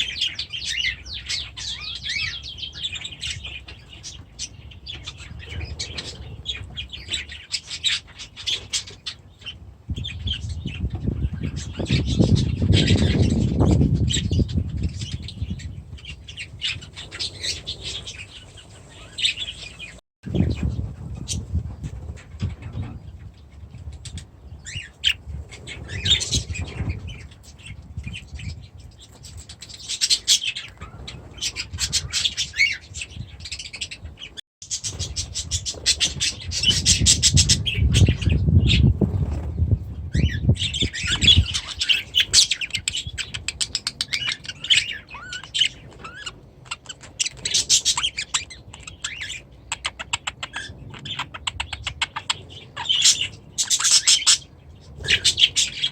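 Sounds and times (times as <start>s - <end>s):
birds chirping and squawking: 0.0s - 55.9s.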